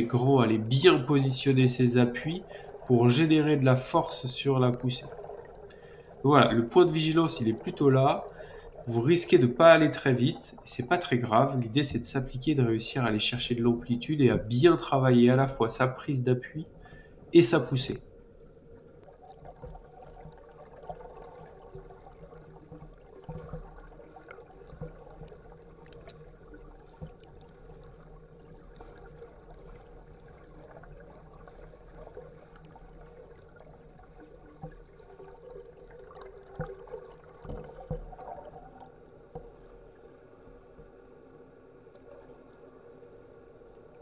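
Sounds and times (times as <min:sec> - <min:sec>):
muffled underwater hum: 0:00.0 - 0:15.8, 0:16.4 - 0:44.0
underwater swishing and bubbling: 0:00.0 - 0:44.0.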